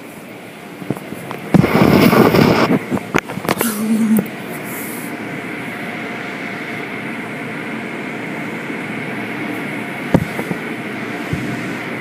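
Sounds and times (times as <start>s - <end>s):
car wash machinery and spray: 0.0s - 12.0s.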